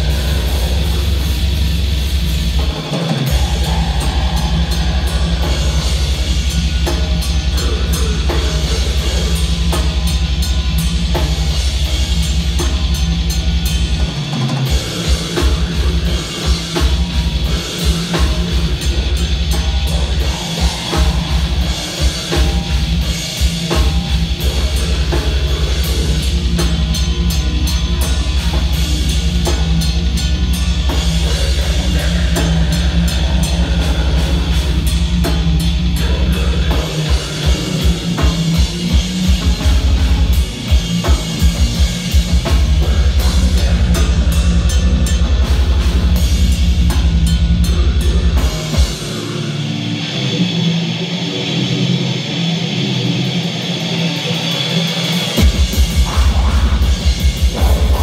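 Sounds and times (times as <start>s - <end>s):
death metal band playing: 0.0s - 58.0s.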